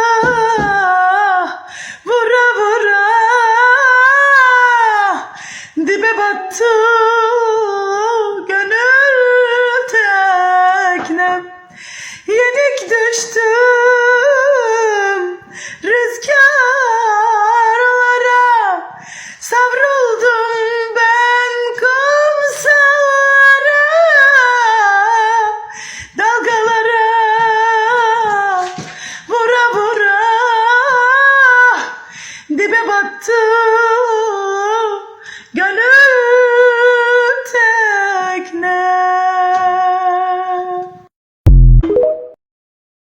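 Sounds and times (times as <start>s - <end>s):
woman singing unaccompanied: 0.0s - 41.1s.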